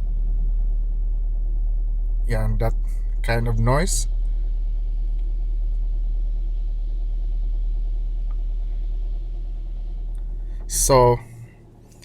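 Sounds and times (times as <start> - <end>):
car engine running at low rpm: 0.0 - 12.0.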